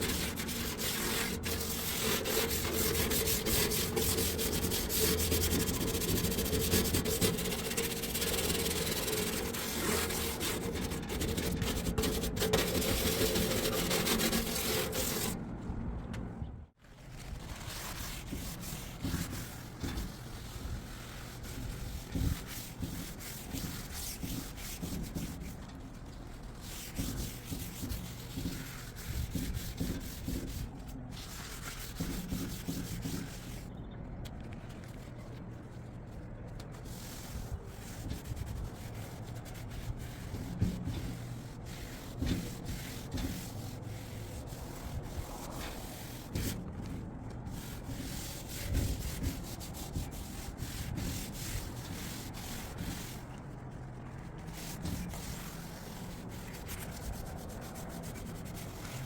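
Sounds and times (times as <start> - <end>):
scratchy scrubbing of surface: 0.0 - 15.4, 17.1 - 33.8, 34.9 - 53.4, 54.2 - 59.0.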